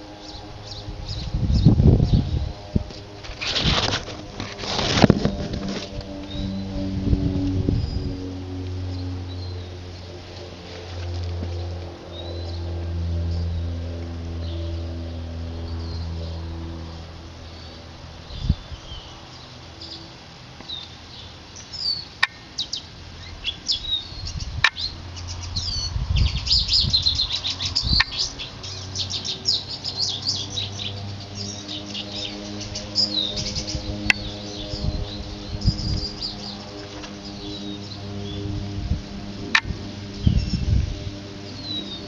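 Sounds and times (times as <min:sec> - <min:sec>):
small birds chirping: 0:00.0 - 0:42.0
steady low hum: 0:00.0 - 0:42.0.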